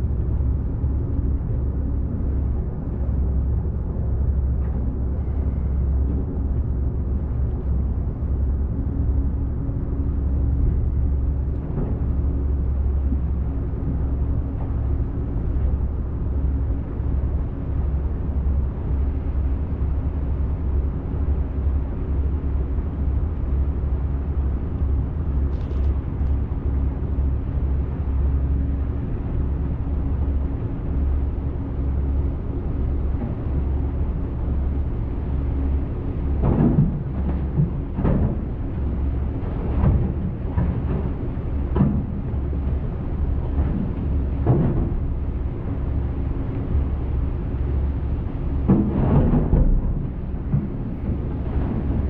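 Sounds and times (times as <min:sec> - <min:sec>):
low engine hum: 0:00.0 - 0:52.0.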